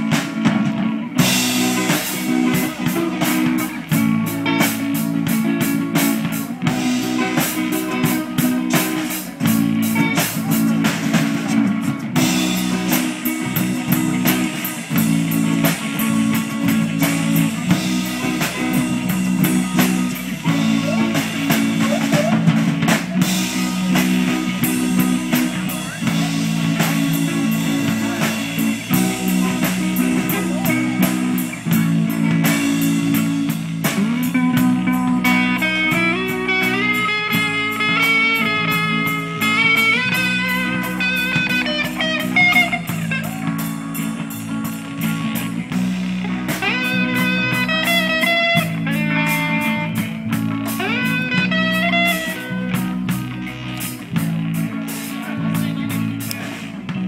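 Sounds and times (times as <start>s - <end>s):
drum kit beat: 0.0s - 57.0s
electric guitar: 0.0s - 57.0s
live band playing: 0.0s - 57.0s.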